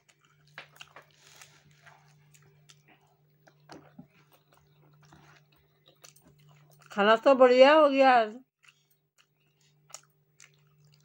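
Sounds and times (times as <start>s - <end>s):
person chewing: 0.0s - 6.9s, 8.6s - 11.0s
low steady hum: 0.0s - 11.0s.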